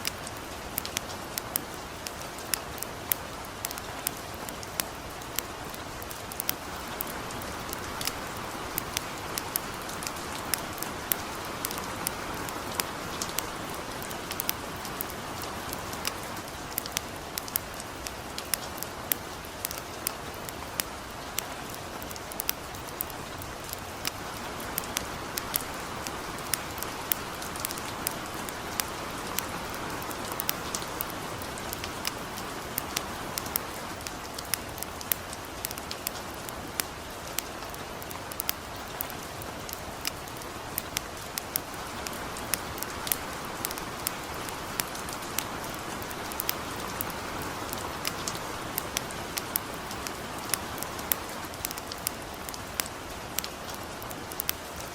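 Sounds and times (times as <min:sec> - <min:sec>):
campfire crackling: 0:00.0 - 0:54.9
light rain falling: 0:00.0 - 0:54.9.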